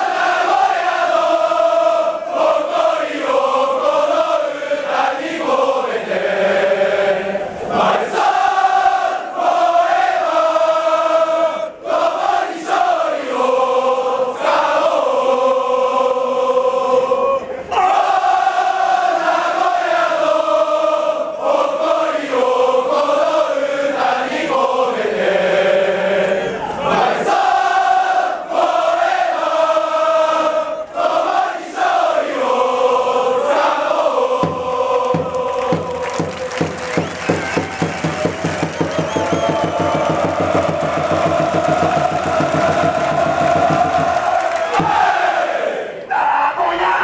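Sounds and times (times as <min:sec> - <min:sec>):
crowd singing a chant: 0:00.0 - 0:47.0.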